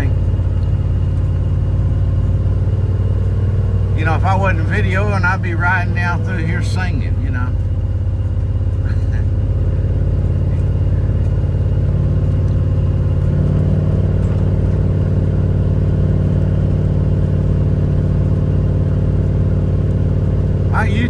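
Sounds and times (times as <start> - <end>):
road noise: 0.0 - 21.0
vehicle engine: 0.0 - 21.0.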